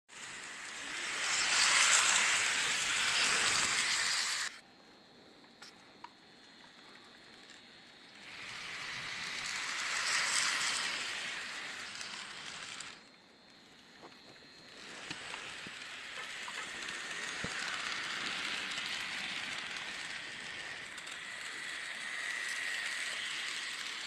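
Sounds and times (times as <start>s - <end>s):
model train running on track: 0.1s - 4.6s, 6.5s - 24.0s.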